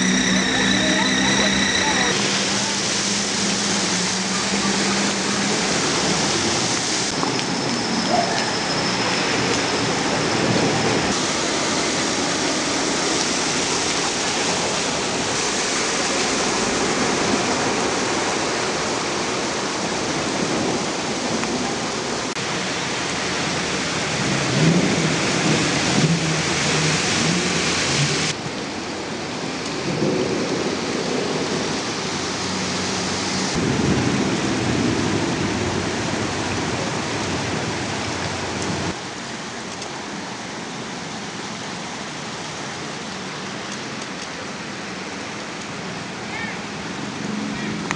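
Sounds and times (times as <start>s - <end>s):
heavy rain and running water: 0.0s - 47.9s.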